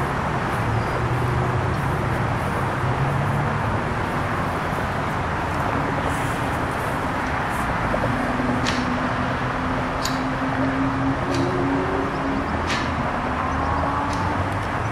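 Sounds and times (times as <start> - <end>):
engines rumbling: 0.0 - 14.9.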